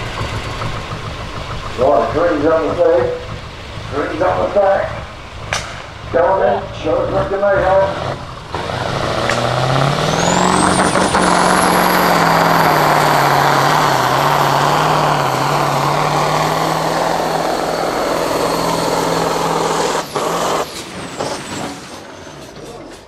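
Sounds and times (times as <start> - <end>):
high whine: 0.0 - 20.8
tractor engine running flat out: 0.0 - 21.9.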